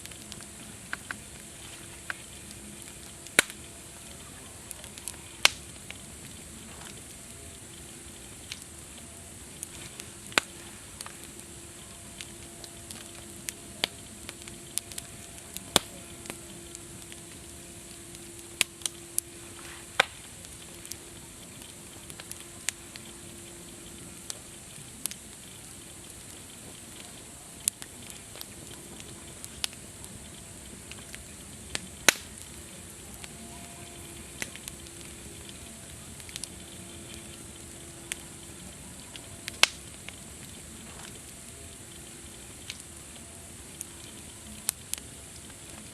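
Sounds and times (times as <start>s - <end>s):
burning wood popping and snapping: 0.0s - 45.9s
campfire crackling: 0.0s - 45.9s.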